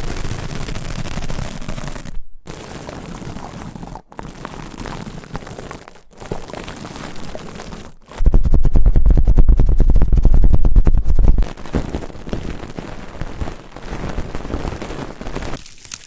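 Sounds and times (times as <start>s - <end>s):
close-up crackling and rustling: 0.0s - 16.0s.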